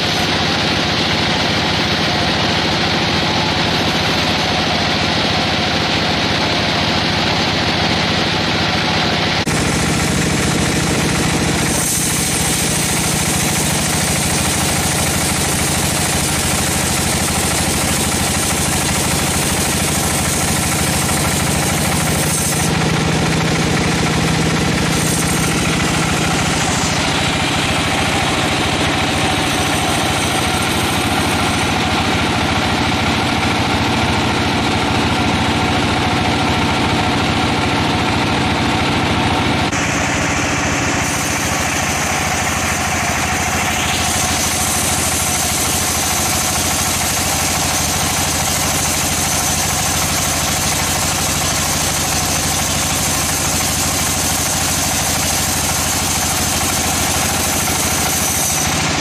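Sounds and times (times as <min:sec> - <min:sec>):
high machinery hiss: 0:00.0 - 0:38.4, 0:39.4 - 0:59.0
engine hum: 0:00.0 - 0:59.0.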